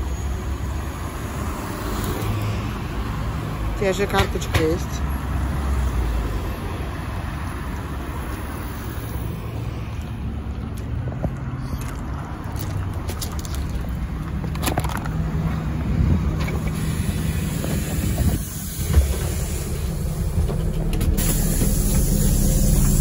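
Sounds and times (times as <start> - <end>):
bus engine hum: 0.0 - 23.0
road noise: 0.0 - 23.0.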